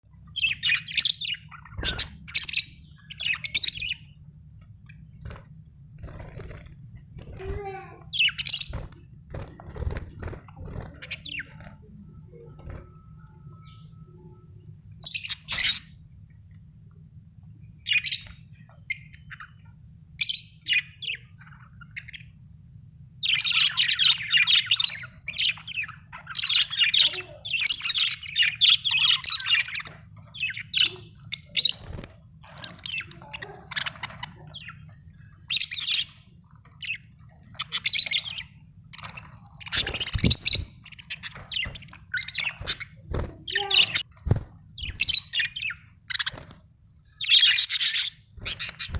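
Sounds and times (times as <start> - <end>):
budgerigars chirping and chattering: 0.2 - 4.2, 7.4 - 13.9, 15.0 - 16.0, 17.8 - 22.4, 23.2 - 48.9.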